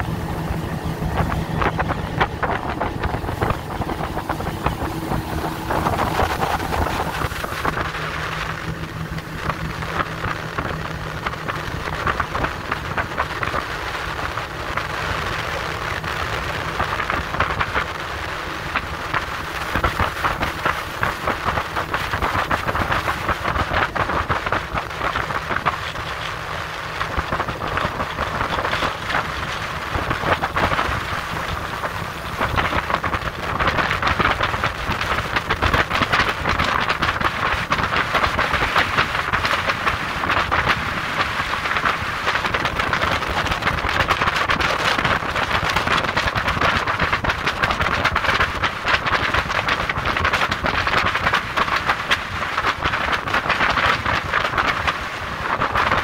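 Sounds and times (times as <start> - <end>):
boat motor drone: 0.0 - 56.0
water along hull: 0.0 - 56.0
wind buffeting microphone: 0.0 - 56.0.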